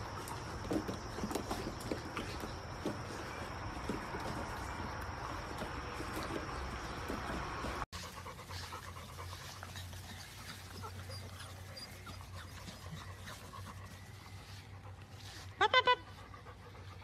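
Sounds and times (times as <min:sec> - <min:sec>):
puppies crunching food: 0:00.0 - 0:15.4
puppies panting: 0:00.0 - 0:17.0.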